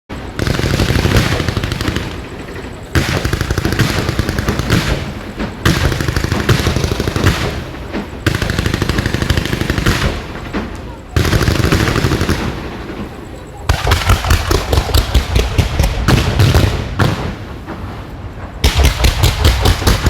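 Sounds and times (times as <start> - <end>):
fireworks crackling: 0.1 - 20.0.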